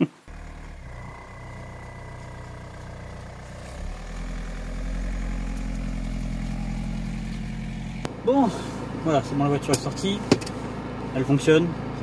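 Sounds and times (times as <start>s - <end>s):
diesel car engine idling: 0.3s - 12.0s.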